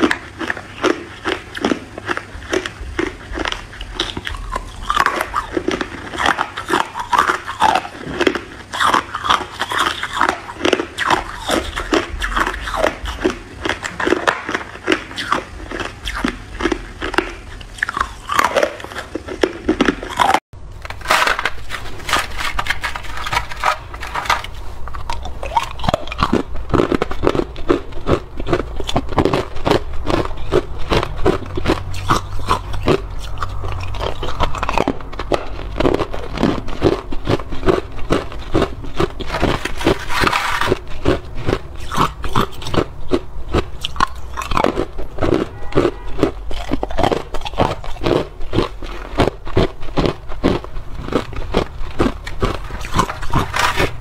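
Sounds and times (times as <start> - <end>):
ice cubes crunched by chewing: 0.0 - 54.0.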